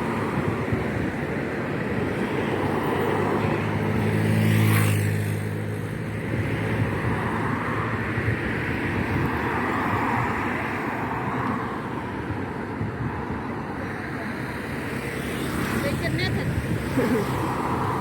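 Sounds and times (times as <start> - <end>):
wind on microphone: 0.0 - 4.2, 4.8 - 14.8, 15.9 - 18.0
traffic rumbling: 0.0 - 18.0.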